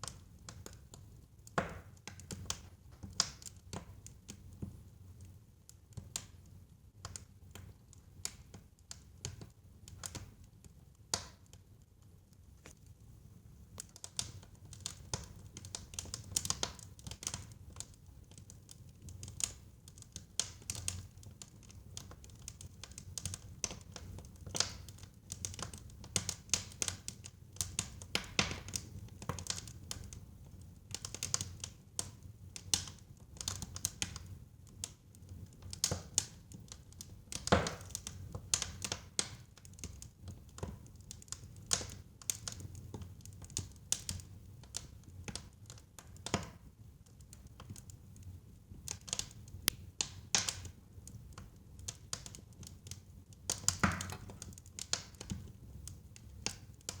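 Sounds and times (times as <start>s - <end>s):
wood crackling and popping: 0.0s - 57.0s.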